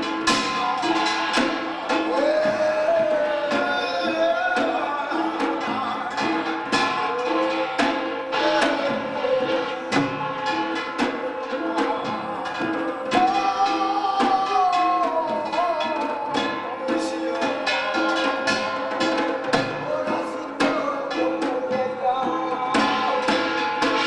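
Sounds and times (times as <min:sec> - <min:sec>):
drum and gong strikes: 0:00.0 - 0:24.0.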